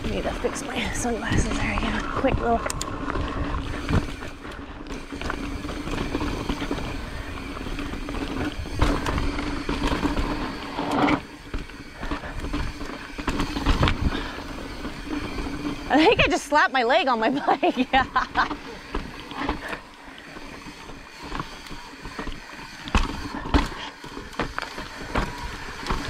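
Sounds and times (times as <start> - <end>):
bike rattling: 0.0 - 26.0
steady hum: 0.0 - 26.0.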